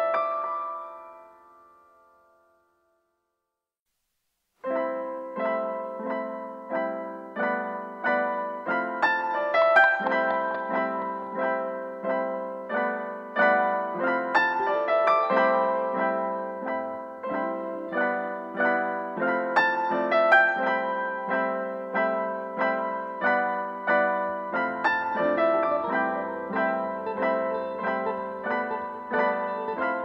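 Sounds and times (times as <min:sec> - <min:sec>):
slow piano music: 0:00.0 - 0:03.2, 0:04.6 - 0:30.0.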